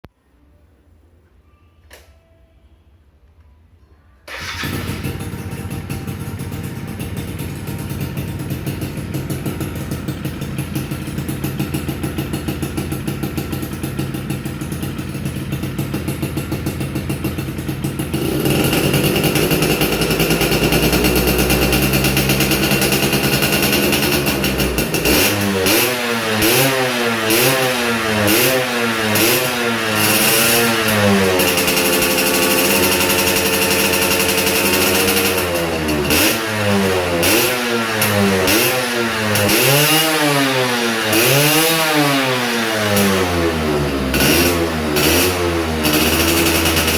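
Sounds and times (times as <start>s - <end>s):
two-stroke motorcycle engine revving: 4.3s - 46.9s.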